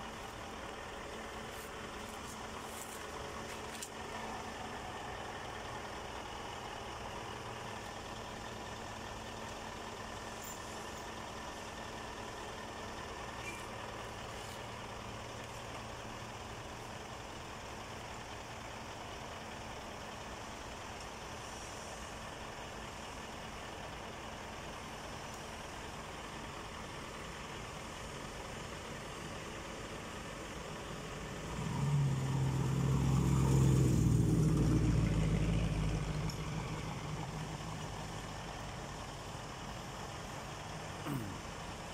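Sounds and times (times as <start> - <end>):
heavy diesel engine idling: 0.0 - 41.9.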